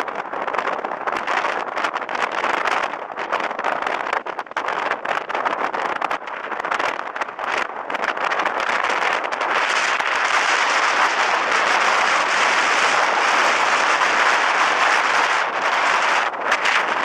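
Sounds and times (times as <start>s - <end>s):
blizzard wind blowing hard: 0.0s - 17.0s.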